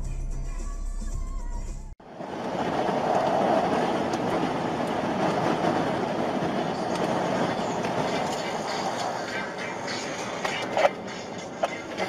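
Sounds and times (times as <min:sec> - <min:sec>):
road and tyre noise: 0:01.7 - 0:12.0.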